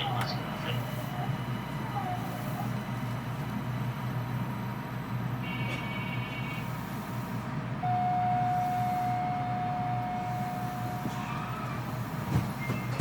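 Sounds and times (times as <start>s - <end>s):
traction motor whine: 0.0s - 13.0s
train running rumble: 0.0s - 13.0s.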